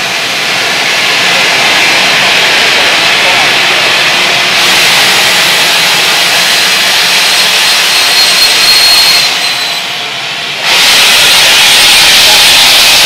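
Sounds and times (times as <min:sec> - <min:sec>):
steam locomotive hissing steam: 0:00.0 - 0:13.0.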